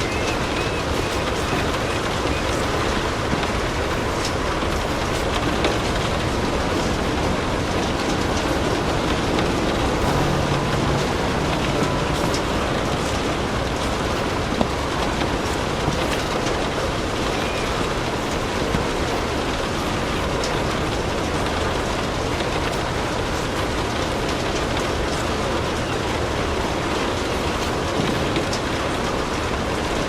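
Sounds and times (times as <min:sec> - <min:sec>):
fireplace crackling: 0:00.0 - 0:29.9
steady rain: 0:00.0 - 0:30.0.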